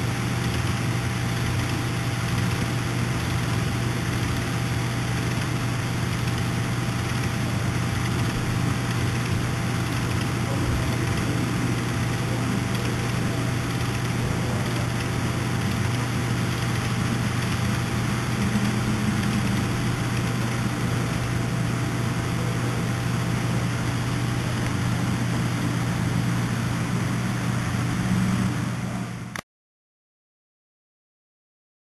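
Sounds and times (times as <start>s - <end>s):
model train motors humming: 0.0s - 29.4s.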